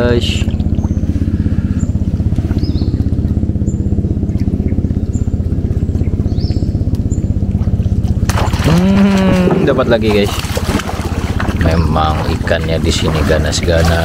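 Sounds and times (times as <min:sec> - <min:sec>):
small boat engine running: 0:00.0 - 0:14.0.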